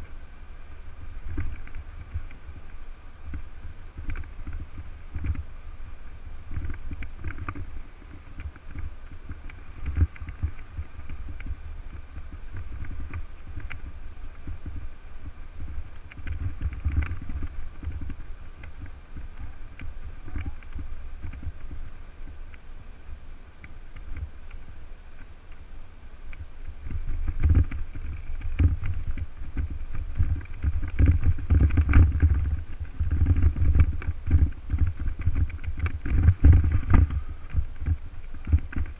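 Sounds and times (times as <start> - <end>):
bike rattling over rough pavement: 0.0 - 38.9
tyres on loose gravel: 0.0 - 38.9
wind rumble on microphone: 0.0 - 38.9.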